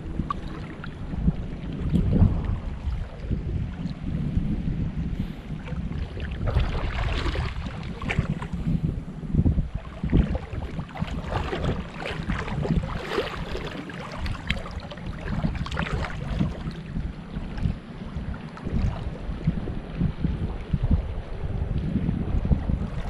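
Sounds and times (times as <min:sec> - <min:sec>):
water splashing and sloshing: 0:00.0 - 0:23.0
wind buffeting microphone: 0:00.0 - 0:23.0.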